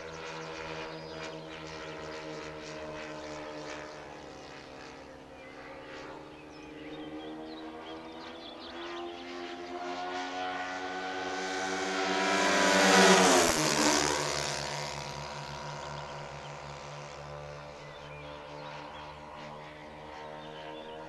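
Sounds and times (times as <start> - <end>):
model airplane engines flying past: 0.0 - 21.0.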